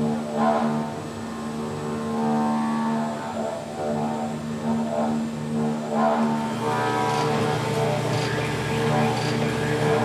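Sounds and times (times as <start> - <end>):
milling machine cutting metal: 0.0 - 10.0.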